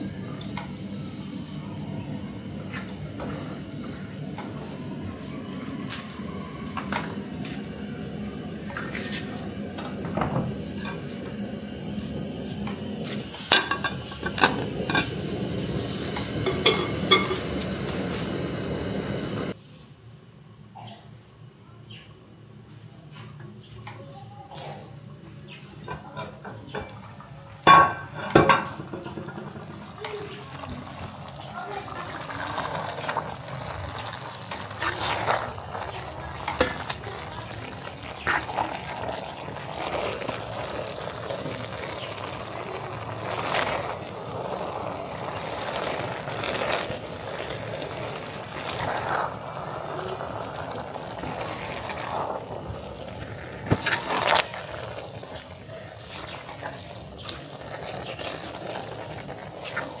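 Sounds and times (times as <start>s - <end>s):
food sizzling in a pot: 0.0s - 19.9s, 25.6s - 60.0s.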